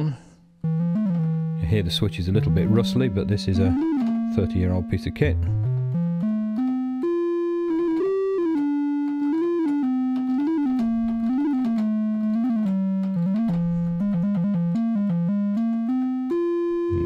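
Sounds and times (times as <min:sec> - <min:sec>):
synthesizer melody: 0:00.6 - 0:17.0.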